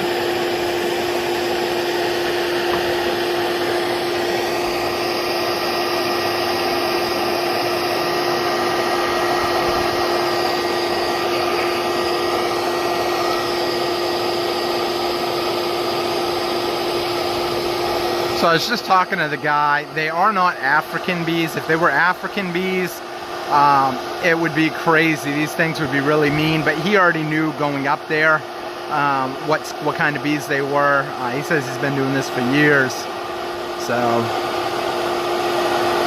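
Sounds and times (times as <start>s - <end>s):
vacuum motor whining hum: 0.0s - 36.0s.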